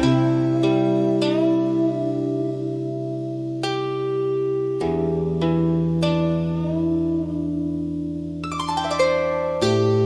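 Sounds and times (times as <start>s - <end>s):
guzheng notes plucked: 0.0s - 10.0s.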